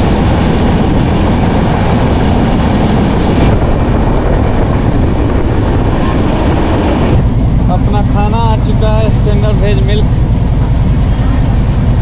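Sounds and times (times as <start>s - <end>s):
rushing air: 0.0s - 12.0s.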